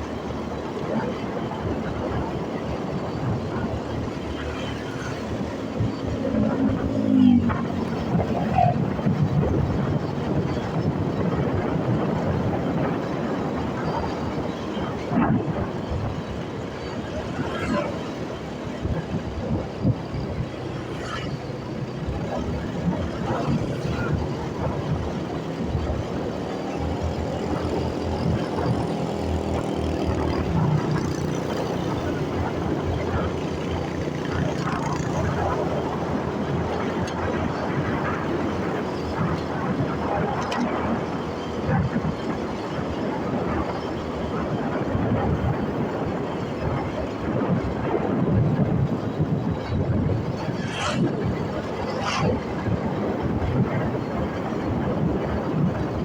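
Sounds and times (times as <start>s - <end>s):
motorcycle engine and road rumble: 0.0s - 56.0s
wind buffeting microphone: 0.0s - 56.0s.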